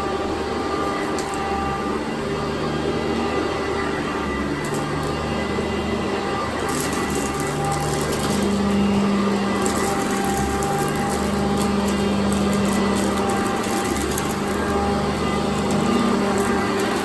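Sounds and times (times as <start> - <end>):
vacuum cleaner running on carpet: 0.0 - 17.0.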